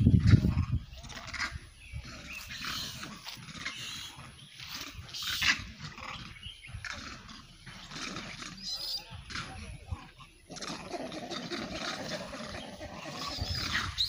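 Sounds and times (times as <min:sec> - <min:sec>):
monkeys calling and chattering: 0:00.0 - 0:14.0.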